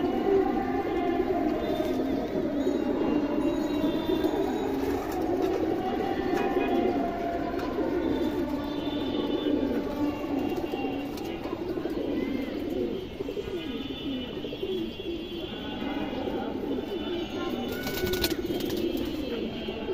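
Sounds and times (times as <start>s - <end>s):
pigeons cooing: 0.0s - 19.9s.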